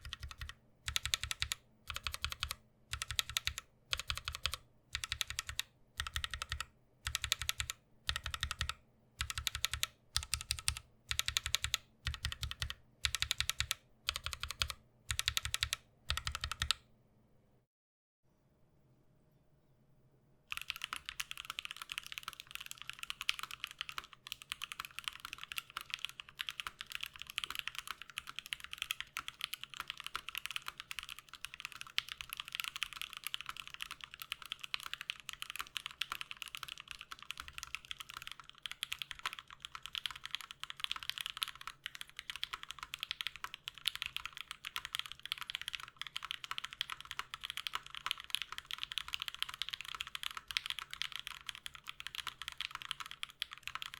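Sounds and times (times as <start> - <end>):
typing on mechanical keyboard: 0.0 - 16.8, 20.5 - 53.9.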